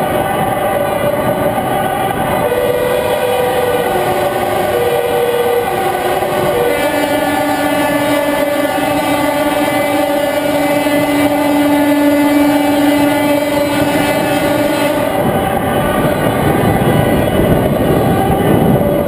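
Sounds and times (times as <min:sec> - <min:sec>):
road rumble: 0:00.0 - 0:19.0
truck engine drone: 0:00.0 - 0:19.0.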